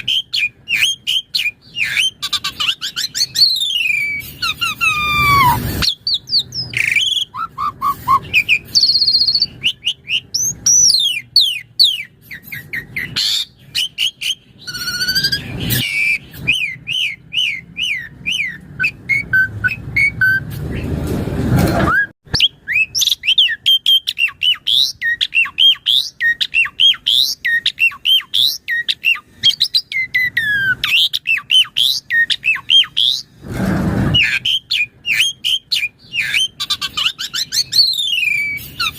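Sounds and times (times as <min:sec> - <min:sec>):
starling singing: 0:00.0 - 0:20.8, 0:22.3 - 0:33.3, 0:34.2 - 0:38.9.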